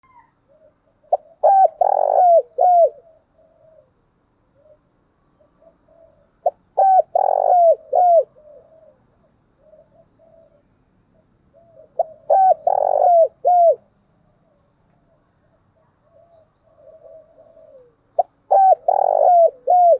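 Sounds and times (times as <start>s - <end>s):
dove cooing: 0.0s - 19.9s.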